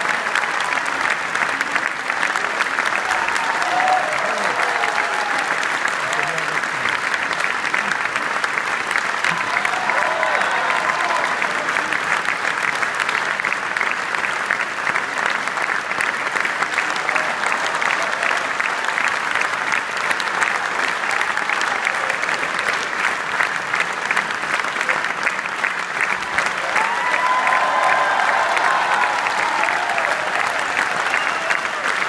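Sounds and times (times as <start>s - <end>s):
audience applauding: 0.0s - 32.0s.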